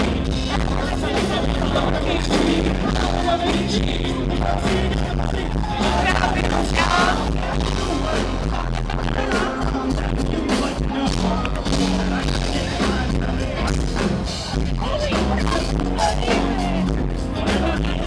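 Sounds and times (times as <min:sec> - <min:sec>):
live rock band playing: 0:00.0 - 0:18.0
man singing into microphone: 0:00.0 - 0:18.0.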